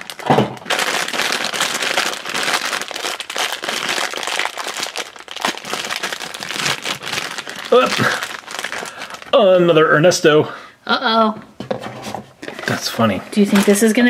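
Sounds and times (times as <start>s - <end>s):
plastic bag crinkling: 0.0s - 9.7s, 12.4s - 14.0s.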